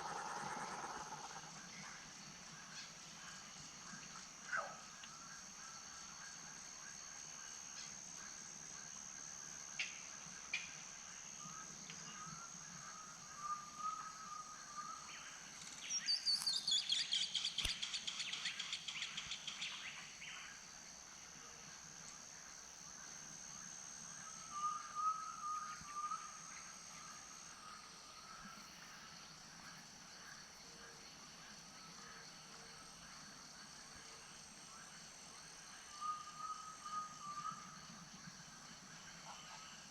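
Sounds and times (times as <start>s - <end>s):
steady high-pitched hum: 0.0s - 39.9s.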